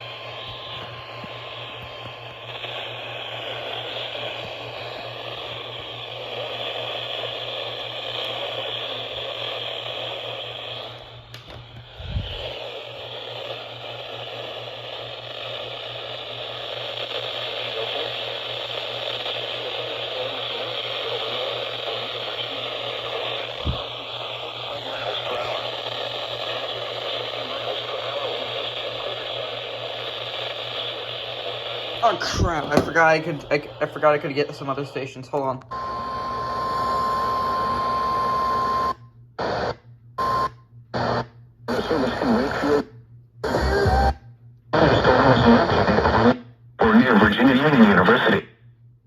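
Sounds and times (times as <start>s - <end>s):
radio static hiss: 0.0s - 40.4s, 41.0s - 48.5s
steady low hum: 0.0s - 49.0s.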